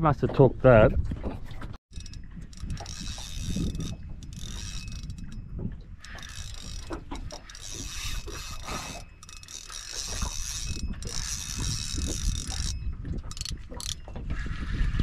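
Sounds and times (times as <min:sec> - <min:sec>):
wind rumble on microphone: 0:00.0 - 0:09.2, 0:09.9 - 0:15.0
fishing reel gears whirring: 0:01.9 - 0:15.0.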